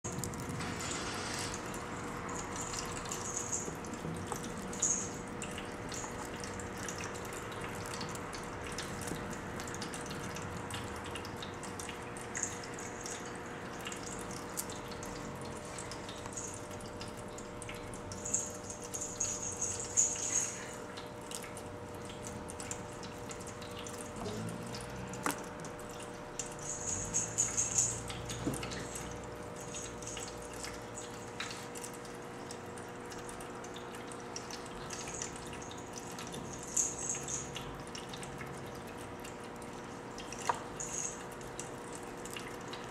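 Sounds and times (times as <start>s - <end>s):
room hum: 0.1s - 42.9s.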